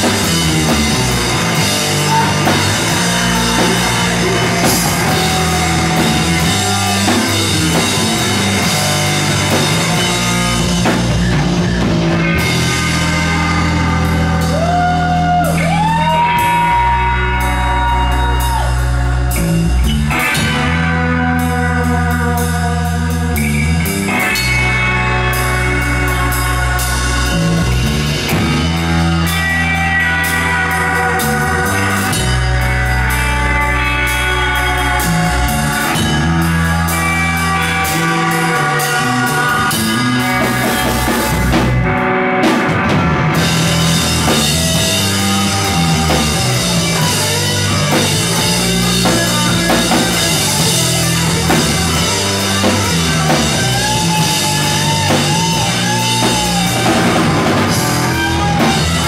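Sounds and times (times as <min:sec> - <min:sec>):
distorted electric guitars: 0:00.0 - 0:59.0
drum kit: 0:00.0 - 0:59.0
rock band playing live: 0:00.0 - 0:59.0.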